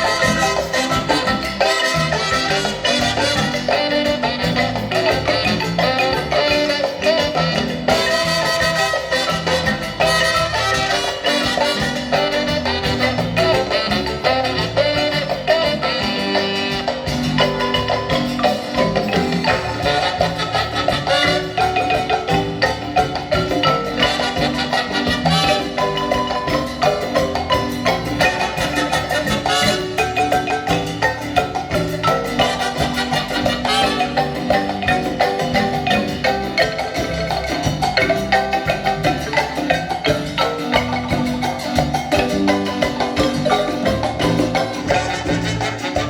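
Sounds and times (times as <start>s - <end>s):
marimba playing: 0.0s - 46.0s.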